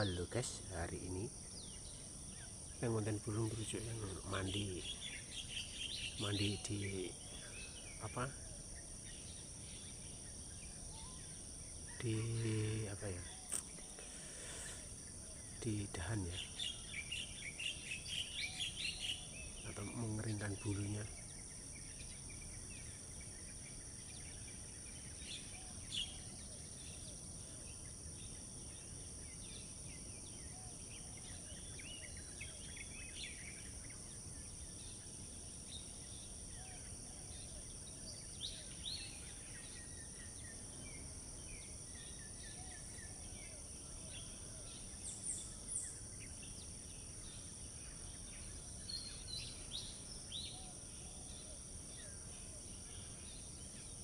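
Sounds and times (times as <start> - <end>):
high-pitched insect drone: 0.0 - 54.0
outdoor background noise: 0.0 - 54.0
small birds chirping: 0.0 - 54.0.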